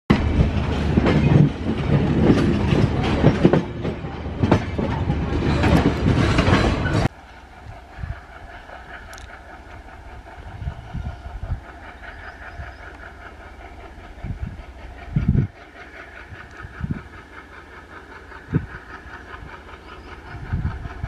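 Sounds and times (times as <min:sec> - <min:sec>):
train wheels clattering over rail joints: 0:00.1 - 0:07.2, 0:07.9 - 0:21.0
distant train rumble: 0:00.1 - 0:21.0.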